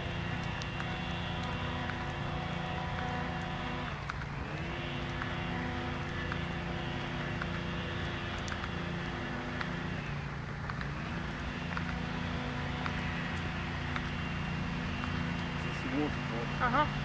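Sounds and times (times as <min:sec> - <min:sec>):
mechanical motor hum: 0:00.0 - 0:17.0.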